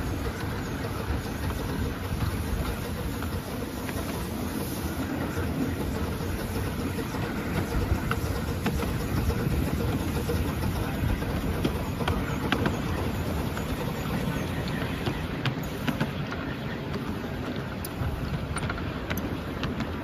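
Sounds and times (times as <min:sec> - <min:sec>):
wheels rumbling on rails: 0:00.0 - 0:20.0.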